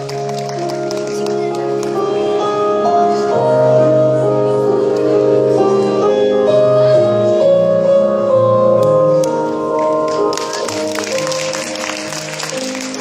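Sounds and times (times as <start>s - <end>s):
instrumental music: 0.0s - 13.0s.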